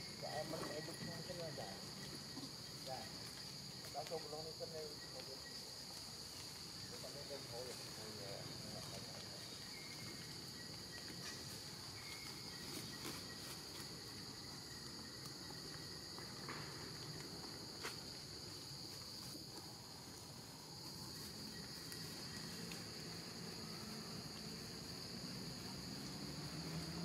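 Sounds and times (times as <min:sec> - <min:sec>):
insects droning: 0:00.0 - 0:27.0
outdoor background noise: 0:00.0 - 0:27.0.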